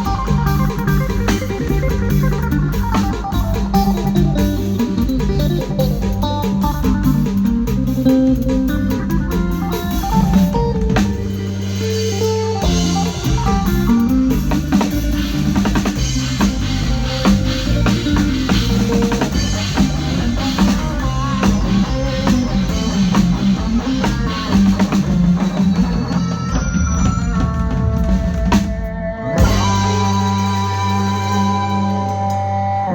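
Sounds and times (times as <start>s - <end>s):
band playing: 0.0s - 32.9s.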